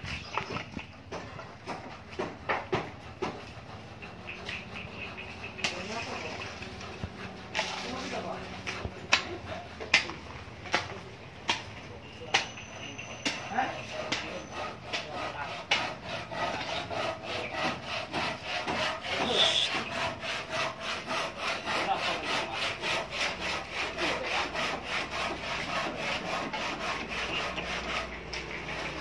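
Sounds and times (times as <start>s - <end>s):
hand saw cutting wood: 0.1s - 29.0s.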